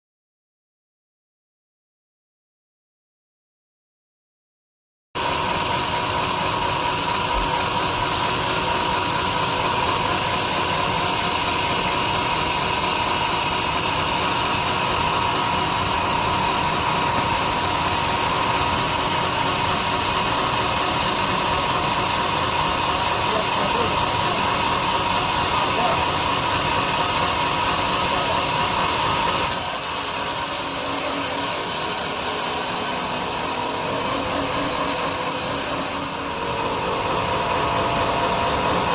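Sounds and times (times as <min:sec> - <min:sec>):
bandsaw running with high whine: 0:05.2 - 0:38.9.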